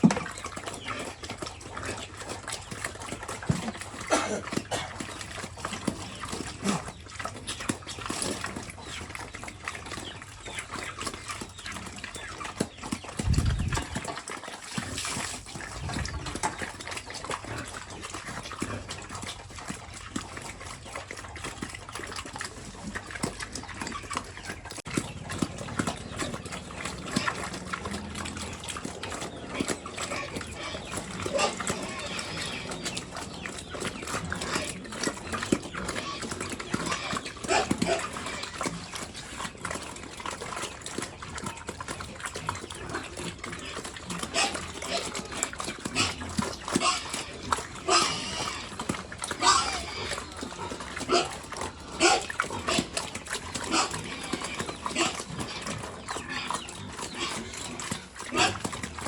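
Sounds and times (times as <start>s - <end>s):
pigs chewing and slurping: 0.0s - 59.0s.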